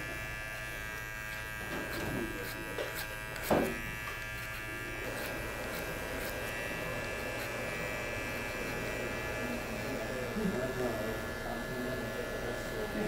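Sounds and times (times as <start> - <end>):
electric hair clipper buzzing: 0.0 - 13.0.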